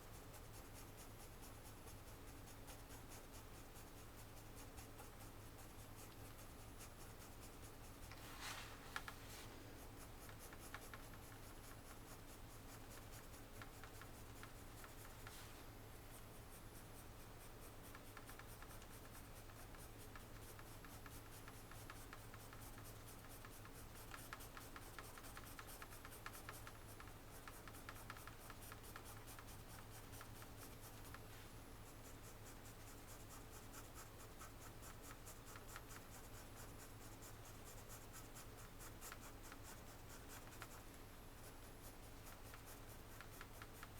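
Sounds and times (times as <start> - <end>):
pencil scratching on paper: 0.3 - 9.2, 9.8 - 43.9.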